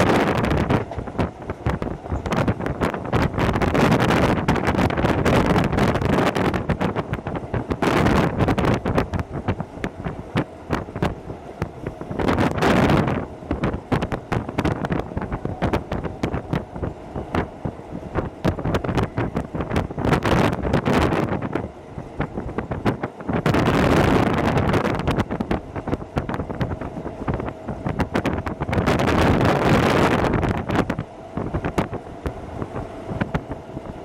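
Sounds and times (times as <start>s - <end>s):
train running and wind noise: 0.0s - 34.0s
wheels rattling on rails: 0.0s - 34.0s.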